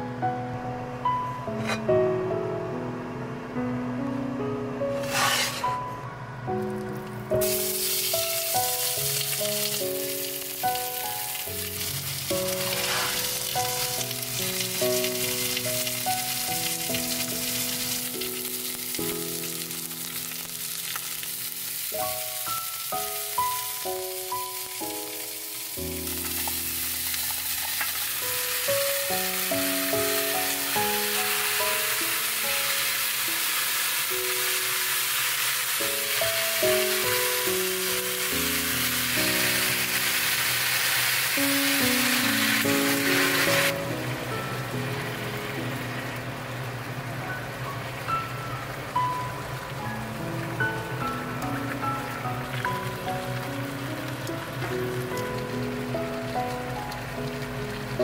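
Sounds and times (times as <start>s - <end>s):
gentle melodic background music: 0.0s - 58.0s
chicken sizzling in hot oil: 5.0s - 5.7s, 7.0s - 58.0s.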